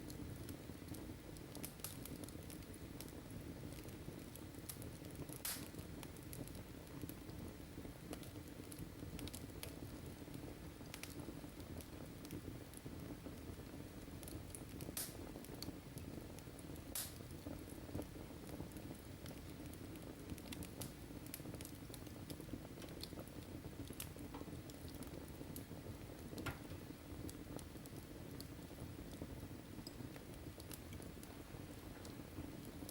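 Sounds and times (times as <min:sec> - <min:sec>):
fire crackling and popping: 0:00.0 - 0:32.9.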